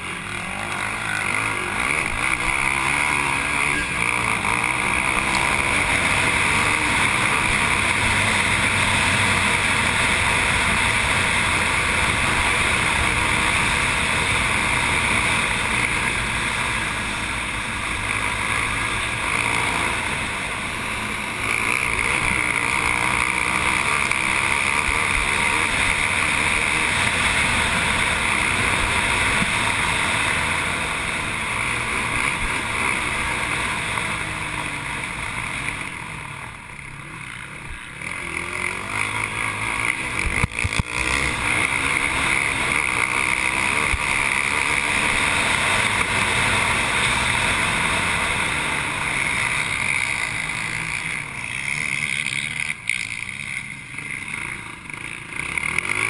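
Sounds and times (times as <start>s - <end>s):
quad engine running hard: 0.0s - 56.0s.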